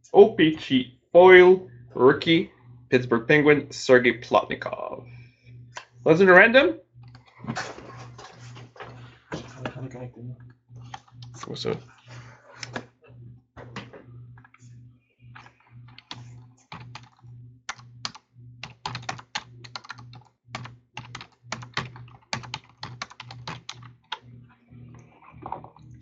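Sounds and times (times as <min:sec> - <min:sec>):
steady low hum: 0:00.0 - 0:26.0
keyboard typing: 0:01.4 - 0:06.2, 0:07.0 - 0:09.8, 0:10.4 - 0:26.0.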